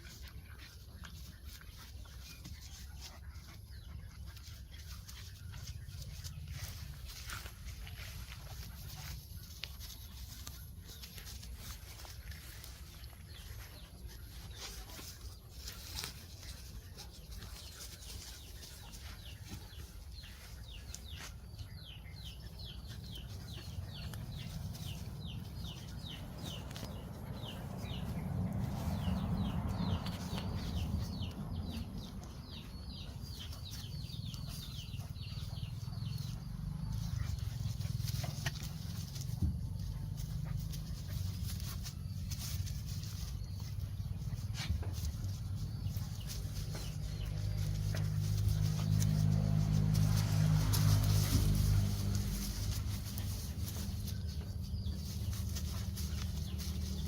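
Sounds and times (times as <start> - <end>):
chickens chirping: 0.0 - 57.0.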